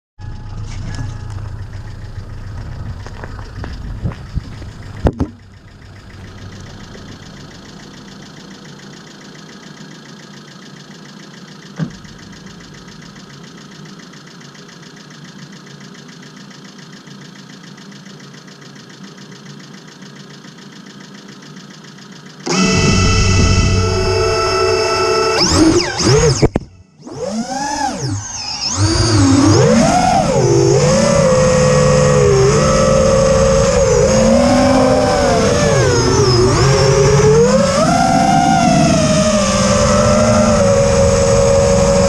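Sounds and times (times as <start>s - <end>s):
quadcopter motors running: 0.3s - 42.0s.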